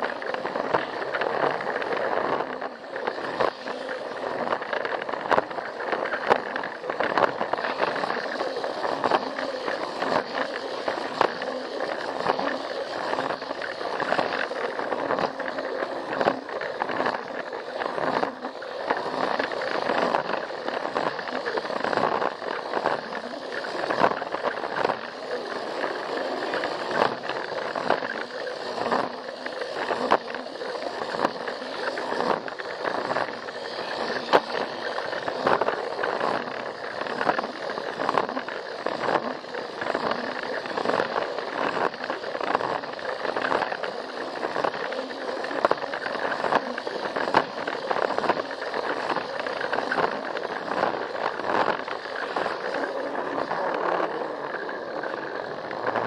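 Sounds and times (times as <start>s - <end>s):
plastic wheels rolling on track: 0.0s - 56.0s
toy train motor running: 0.0s - 56.0s.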